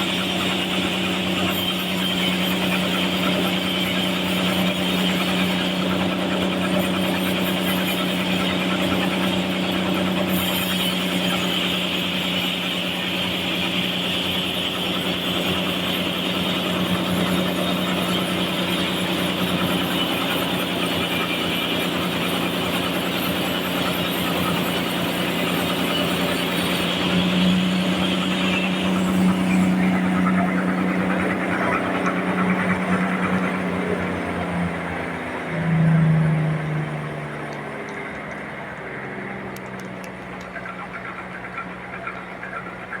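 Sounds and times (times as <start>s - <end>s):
sawmill machine hum: 0.0s - 43.0s.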